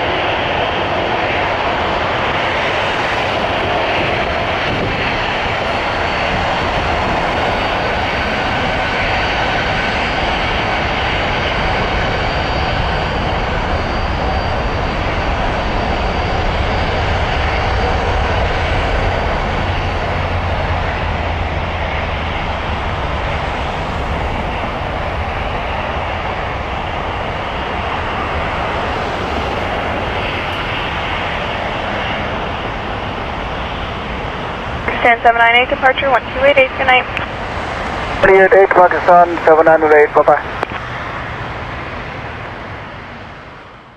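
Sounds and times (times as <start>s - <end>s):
faint high engine whine: 0.0s - 43.9s
jet engines roaring: 0.0s - 43.9s.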